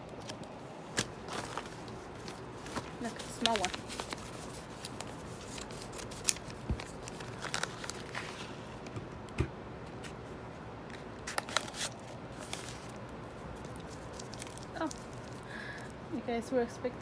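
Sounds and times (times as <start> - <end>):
packaging crinkling and rustling: 0.1 - 9.3, 10.9 - 16.0.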